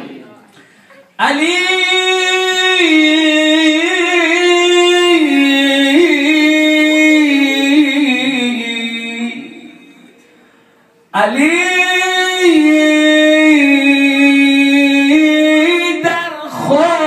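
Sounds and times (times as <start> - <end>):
man singing unaccompanied: 1.2 - 10.1, 11.1 - 17.0.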